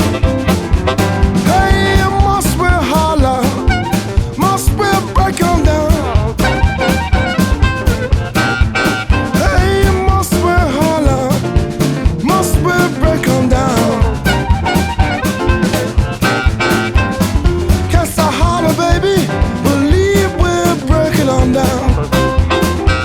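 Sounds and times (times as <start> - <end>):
upbeat swing music: 0.0 - 23.0.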